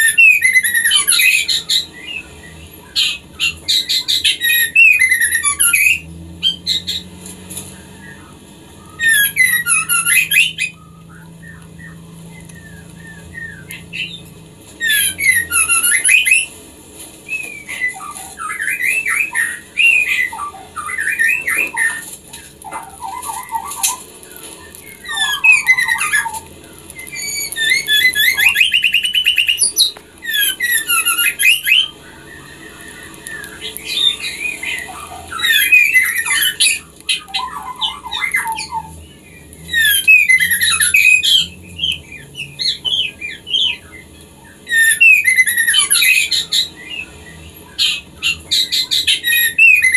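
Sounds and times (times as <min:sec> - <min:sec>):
bird rapid trill: 0:00.0 - 0:16.5, 0:17.3 - 0:49.9
bird chattering and whistling: 0:00.0 - 0:16.6, 0:17.2 - 0:49.9.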